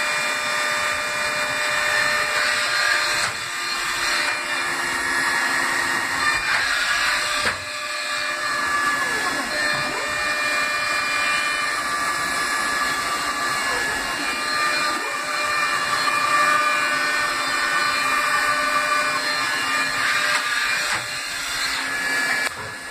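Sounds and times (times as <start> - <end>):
lathe machine whine: 0.0 - 22.9.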